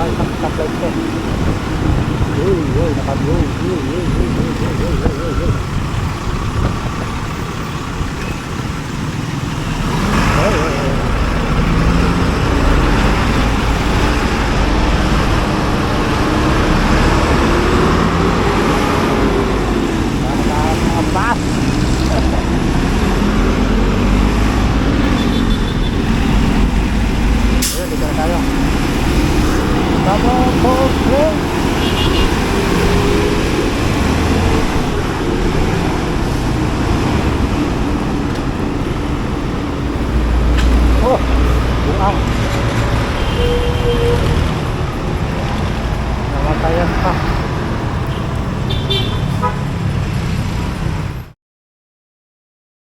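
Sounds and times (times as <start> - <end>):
wind rushing over microphone: 0.0 - 43.1
vehicle engine speeding up: 0.0 - 43.4
road traffic noise: 0.0 - 51.4.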